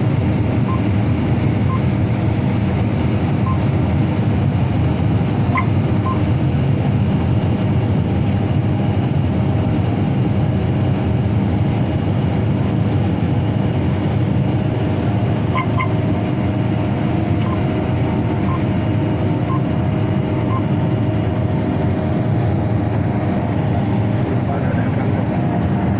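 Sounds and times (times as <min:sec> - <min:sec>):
combine harvester drone: 0:00.0 - 0:25.9.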